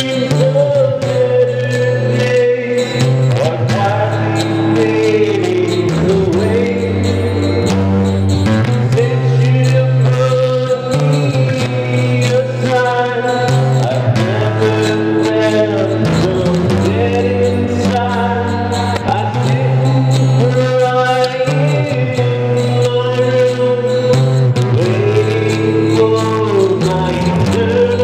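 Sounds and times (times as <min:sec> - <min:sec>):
person singing: 0:00.0 - 0:28.0
sustained low bass notes: 0:03.1 - 0:28.0.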